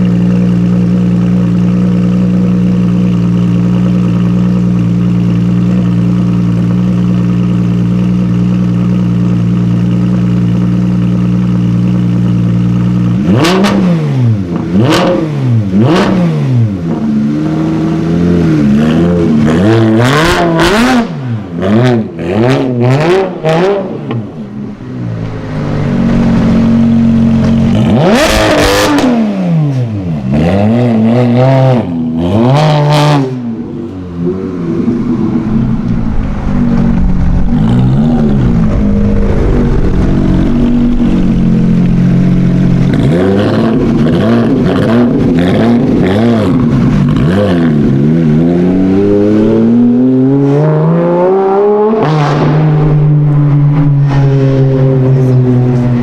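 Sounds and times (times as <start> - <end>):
supercar engine revving: 0.0 - 56.0.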